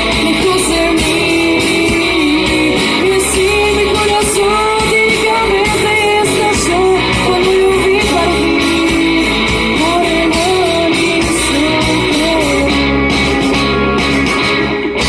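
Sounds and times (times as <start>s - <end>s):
electric guitar bending melody: 0.0s - 15.0s
rock band playing loudly: 0.0s - 15.0s.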